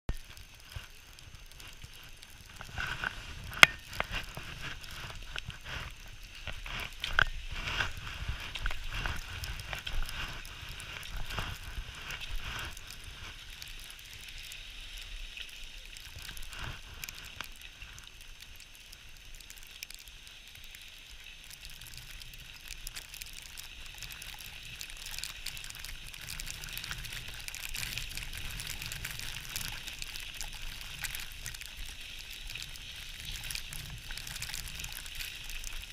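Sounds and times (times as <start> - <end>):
skis hissing over snow: 0.3 - 18.8, 20.1 - 35.9.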